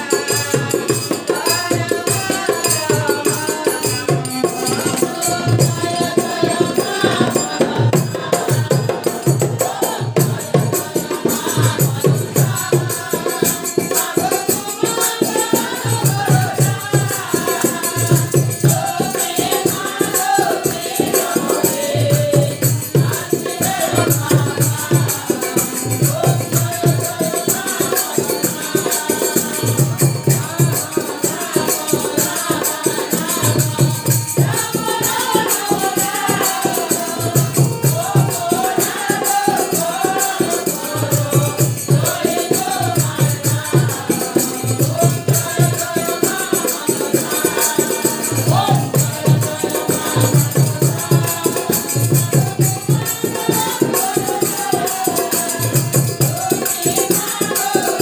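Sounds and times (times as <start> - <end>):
group of voices singing: 0.0 - 58.0.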